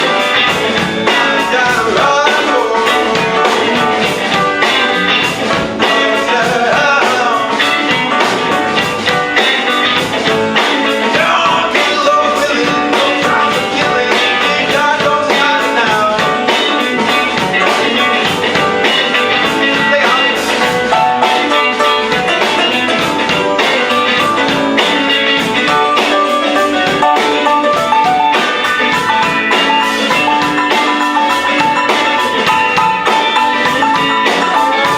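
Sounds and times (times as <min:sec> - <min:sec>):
live rock-blues band: 0:00.0 - 0:34.9.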